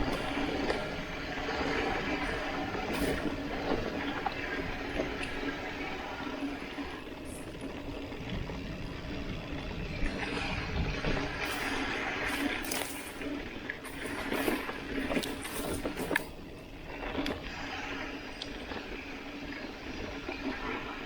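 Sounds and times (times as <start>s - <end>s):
bike rattling over bumps: 0.0s - 21.0s
bike tyres on dirt: 0.0s - 21.0s.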